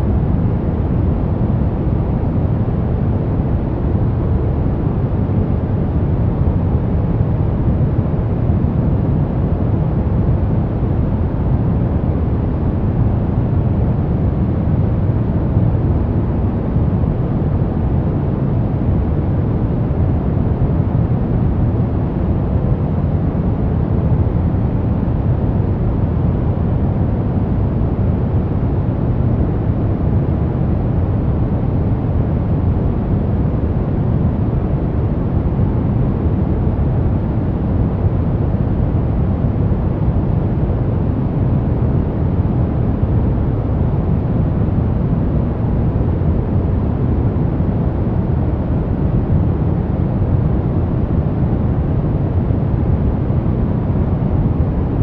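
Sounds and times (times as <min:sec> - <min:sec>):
deep white noise: 0:00.0 - 0:55.0.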